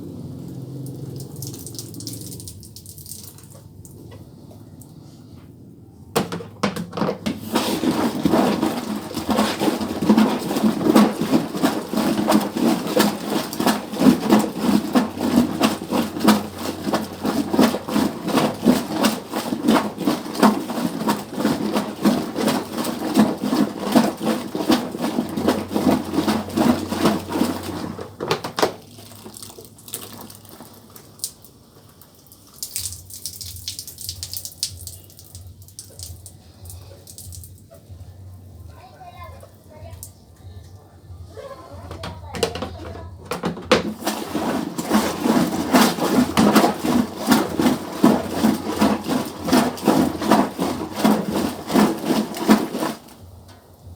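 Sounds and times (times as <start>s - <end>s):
water and laundry sloshing: 0.0s - 53.9s.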